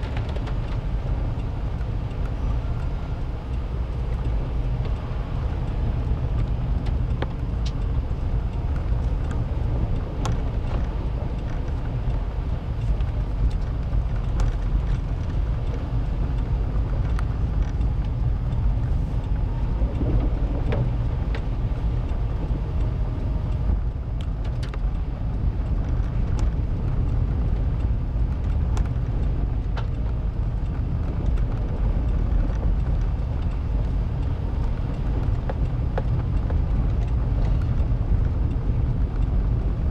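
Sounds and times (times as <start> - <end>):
engine and tyres rumbling: 0.0 - 39.9
light clicks and ticks: 0.0 - 39.9.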